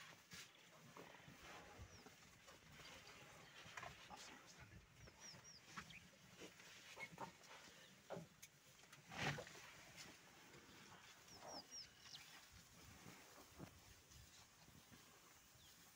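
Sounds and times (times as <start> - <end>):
faint rustles: 0.0 - 15.9.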